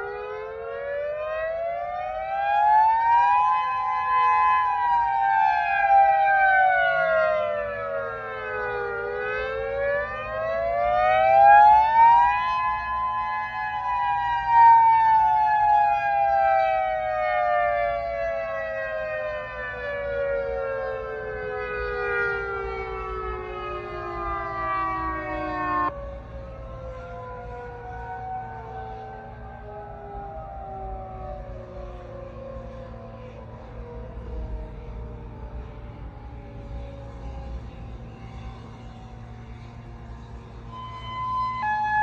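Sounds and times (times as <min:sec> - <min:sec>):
warning siren wailing: 0:00.0 - 0:42.0.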